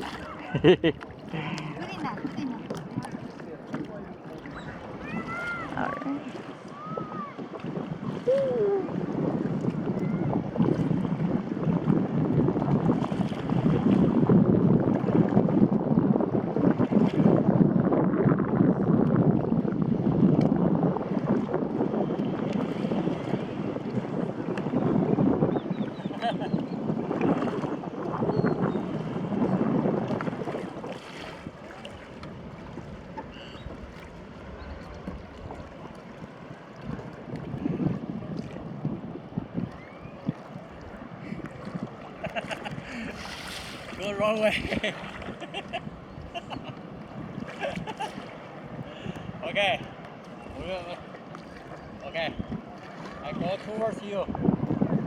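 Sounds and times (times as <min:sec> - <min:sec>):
water rushing along hull: 0:00.0 - 0:55.0
wind buffeting microphone: 0:00.0 - 0:55.0.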